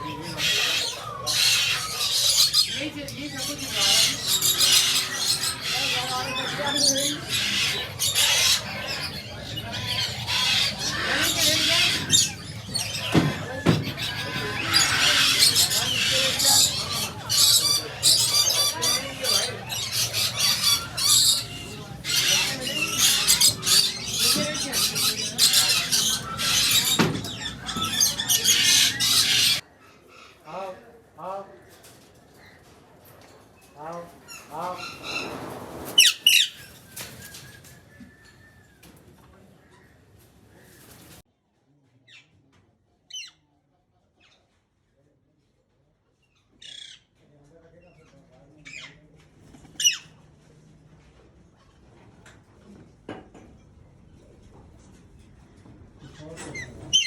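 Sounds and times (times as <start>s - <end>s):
small birds chirping and squawking: 0.0s - 41.2s, 43.1s - 43.5s, 46.1s - 50.2s, 54.0s - 57.0s.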